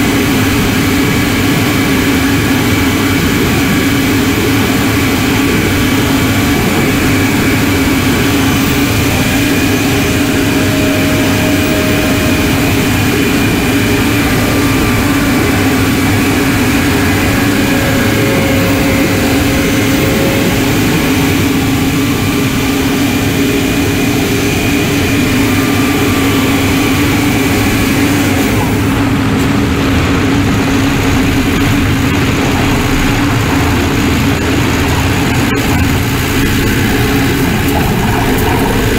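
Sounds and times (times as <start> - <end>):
diesel engine droning: 0.0 - 38.9
turbocharger whine: 0.0 - 38.9.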